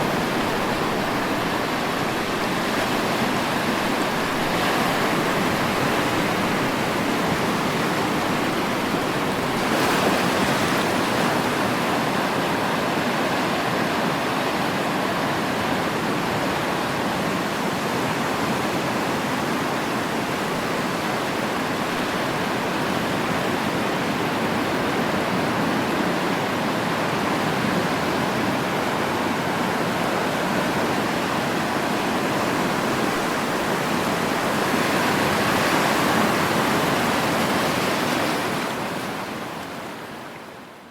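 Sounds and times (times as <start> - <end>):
sea waves washing on shore: 0.0 - 40.9.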